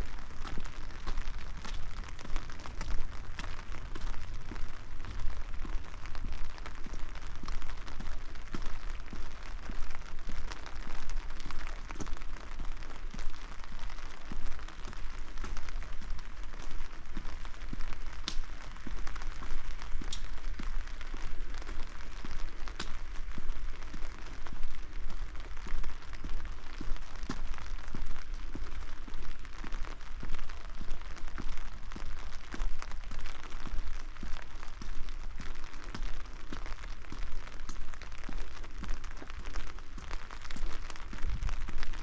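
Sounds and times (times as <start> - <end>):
rain patter: 0.0 - 42.0.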